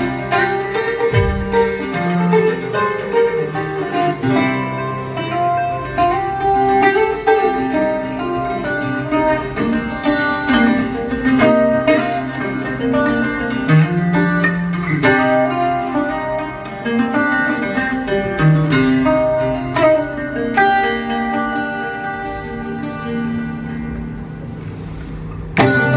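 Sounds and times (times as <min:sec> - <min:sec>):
acoustic guitar plucking: 0:00.0 - 0:25.9.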